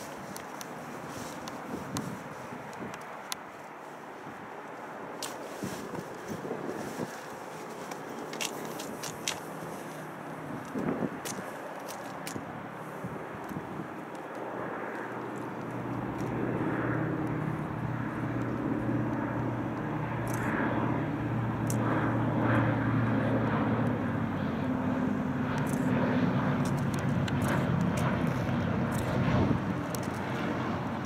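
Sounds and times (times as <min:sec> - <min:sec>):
aircraft radial engines droning: 0:00.0 - 0:31.0.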